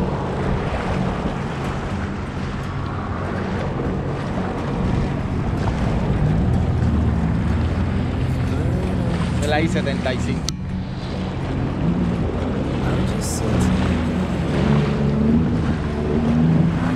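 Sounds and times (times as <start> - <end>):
jet ski engine running: 0.0 - 16.9
water rushing along hull: 0.0 - 16.9
wind buffeting microphone: 0.0 - 16.9.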